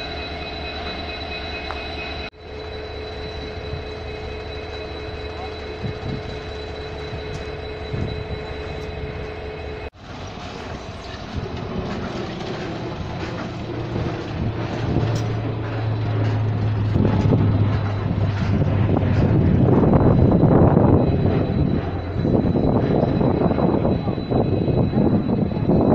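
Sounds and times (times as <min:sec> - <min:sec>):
heavy engine drone: 0:00.0 - 0:25.9.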